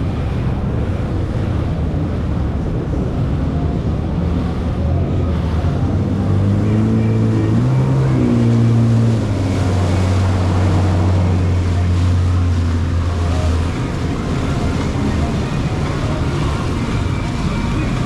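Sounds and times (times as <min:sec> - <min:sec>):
jet ski engine running: 0:00.0 - 0:18.0
wind: 0:00.0 - 0:18.0.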